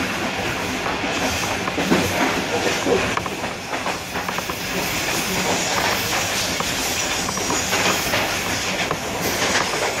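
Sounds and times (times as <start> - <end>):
train wheels rumbling on rail: 0.0 - 10.0
wheels clicking over rail joints: 1.6 - 10.0.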